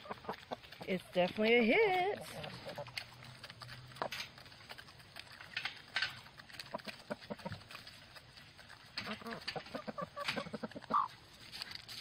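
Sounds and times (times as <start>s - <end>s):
beaks tapping on grain and bowl: 0.0s - 12.0s
hens clucking: 0.0s - 12.0s.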